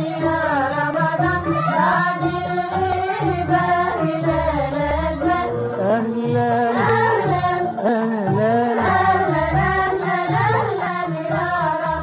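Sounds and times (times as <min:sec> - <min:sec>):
person singing a melody: 0:00.0 - 0:12.0.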